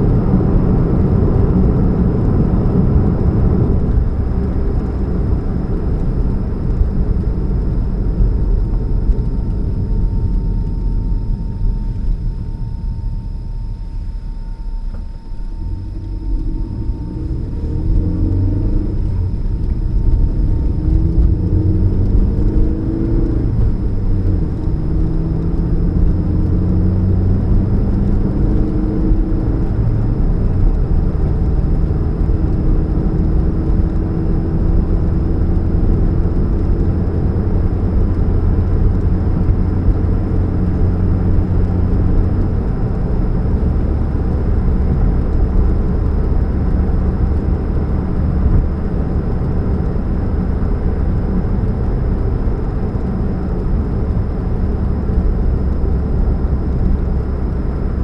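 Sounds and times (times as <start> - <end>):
car engine hum: 0.0 - 58.0
road noise: 0.0 - 58.0.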